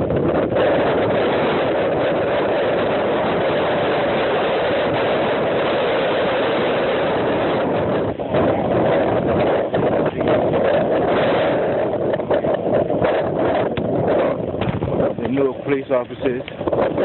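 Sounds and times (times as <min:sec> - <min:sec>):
heavy rain: 0:00.0 - 0:15.1
strong wind: 0:00.0 - 0:17.0
wind buffeting microphone: 0:00.0 - 0:17.0.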